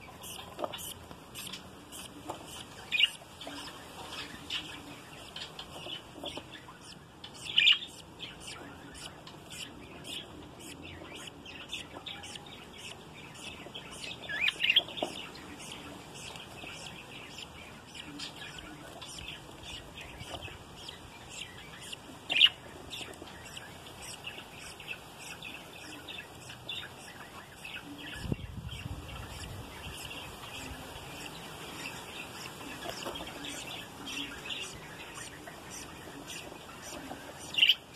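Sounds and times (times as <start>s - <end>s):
budgerigars chirping and chattering: 0.0s - 37.9s
loud budgerigar calls: 0.0s - 37.9s.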